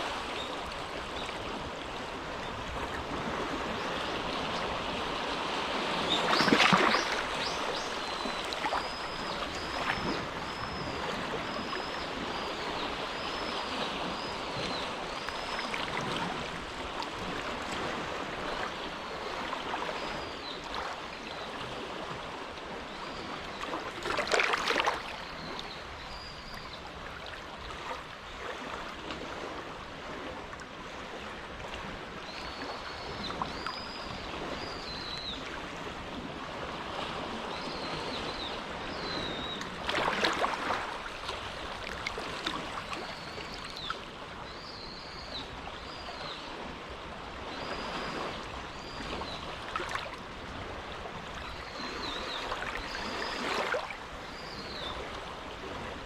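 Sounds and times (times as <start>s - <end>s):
small waves lapping: 0.0s - 56.0s.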